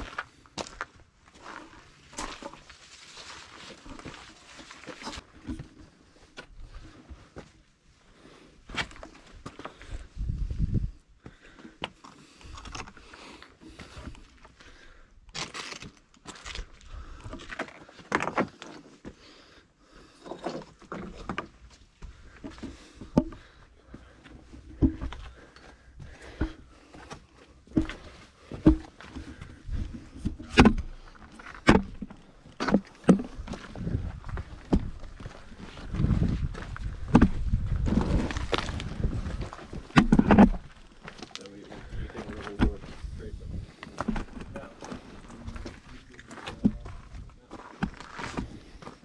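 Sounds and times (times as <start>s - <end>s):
footsteps on a trail: 0.0s - 18.1s, 21.7s - 49.0s.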